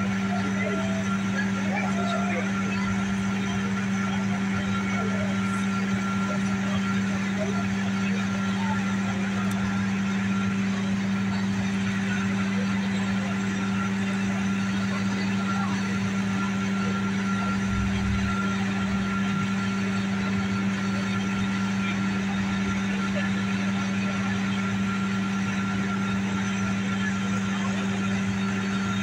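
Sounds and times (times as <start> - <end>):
fire engine humming: 0.0 - 29.0.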